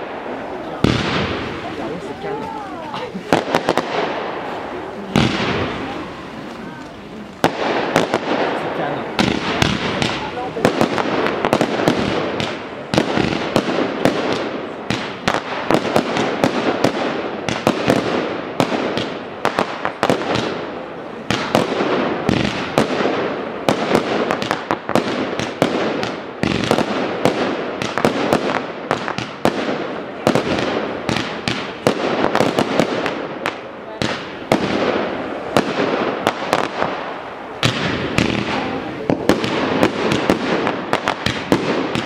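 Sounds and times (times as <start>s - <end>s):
fireworks crackling hiss: 0.0s - 42.0s
fireworks sharp reports: 0.0s - 42.0s.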